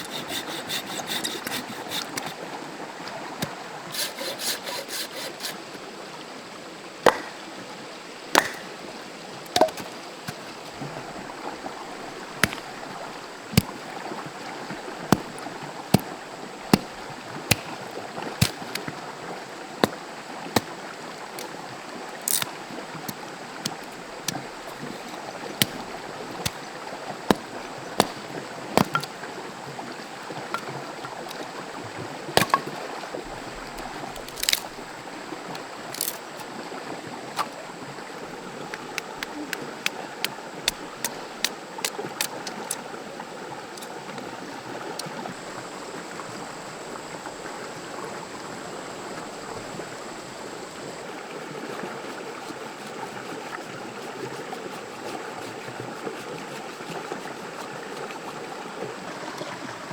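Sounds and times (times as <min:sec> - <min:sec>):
forest stream running: 0:00.0 - 0:59.9.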